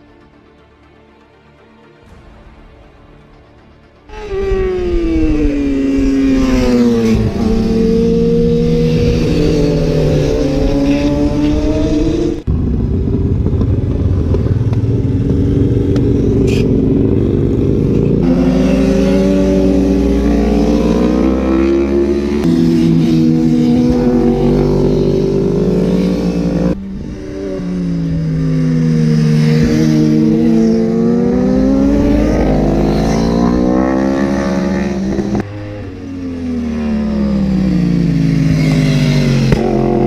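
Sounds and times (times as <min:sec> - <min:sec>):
motorcycles passing at speed: 0:04.1 - 0:40.0.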